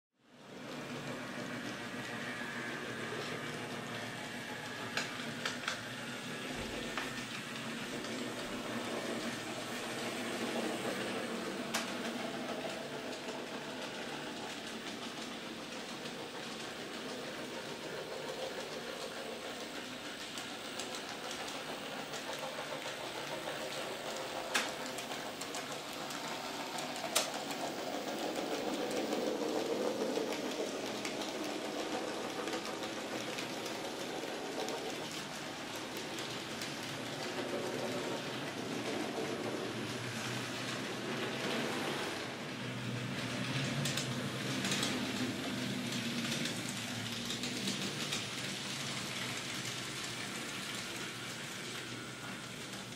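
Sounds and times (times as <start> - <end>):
model trains rolling over track: 0.4 - 52.9.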